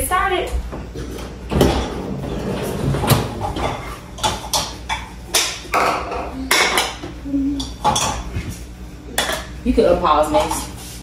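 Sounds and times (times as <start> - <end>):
dishes clinking and knocking: 0.7 - 9.6.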